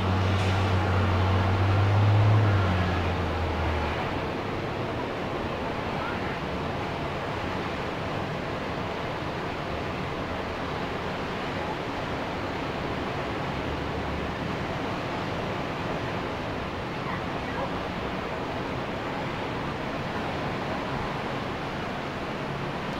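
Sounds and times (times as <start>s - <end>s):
ocean surf washing onto beach: 0.0s - 22.9s.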